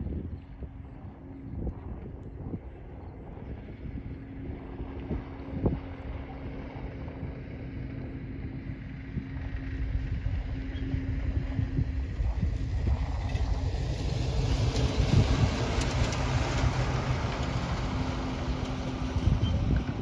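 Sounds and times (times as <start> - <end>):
propeller airplane engine drone: 0.0 - 20.0
wind buffeting microphone: 0.0 - 20.0.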